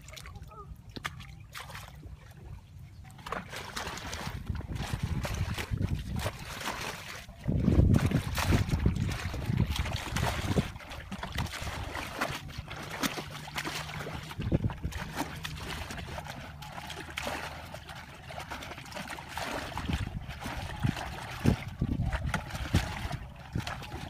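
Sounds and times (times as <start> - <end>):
people wading in water: 0.0 - 24.0
water pouring from a bucket: 3.2 - 24.0.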